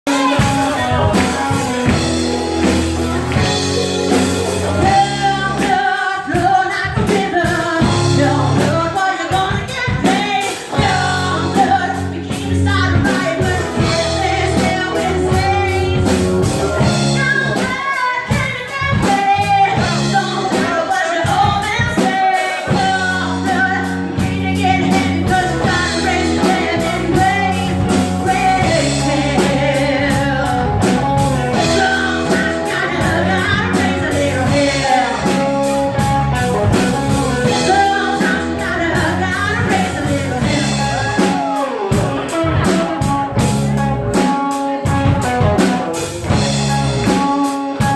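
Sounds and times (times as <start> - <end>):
lead singer: 0.1 - 47.9
live rock band: 0.1 - 47.9.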